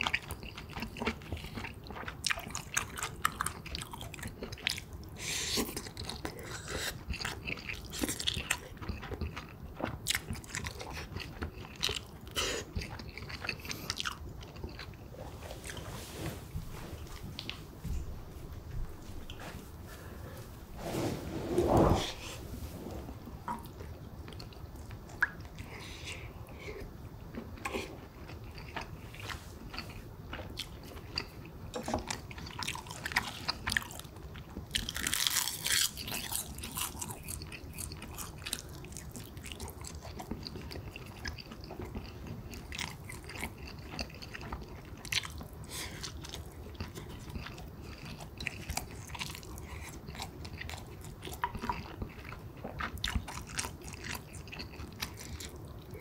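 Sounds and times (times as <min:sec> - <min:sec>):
person chewing food: 0:00.0 - 0:20.5, 0:23.4 - 0:56.0.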